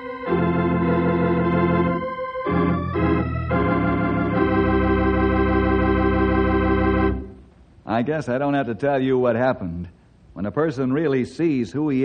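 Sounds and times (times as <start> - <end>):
organ chords: 0.0 - 9.8.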